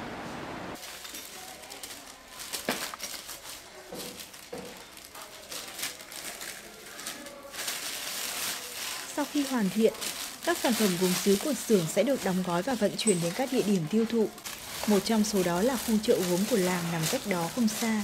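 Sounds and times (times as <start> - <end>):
packing sheet crinkling: 0.8 - 18.0.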